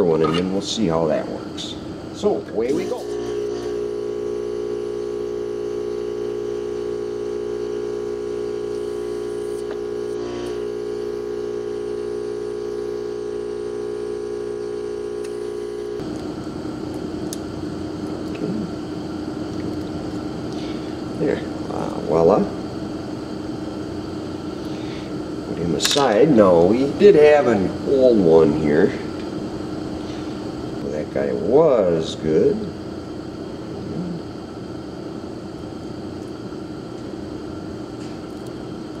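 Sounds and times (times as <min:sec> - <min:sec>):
vacuum pump electric hum: 0:00.0 - 0:39.0.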